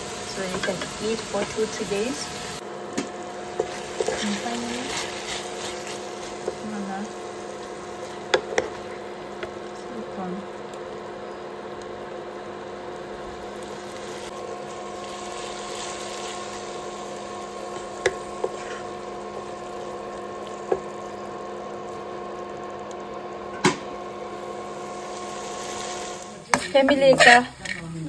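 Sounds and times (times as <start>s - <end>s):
spatula stirring in frying pan: 0.0s - 28.0s
whining hum: 0.0s - 28.0s.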